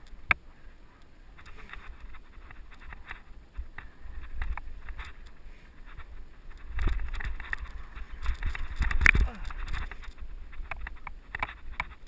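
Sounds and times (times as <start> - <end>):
bike clicks and rattles: 1.3 - 12.0
wind buffeting microphone: 1.3 - 12.0.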